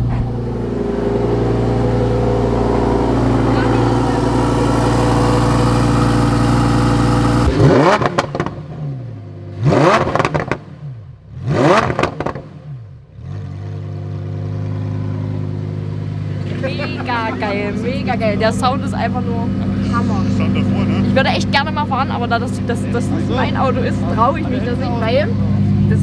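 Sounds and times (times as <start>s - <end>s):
car engine idling: 0.0s - 26.0s
car engine revving: 0.0s - 26.0s.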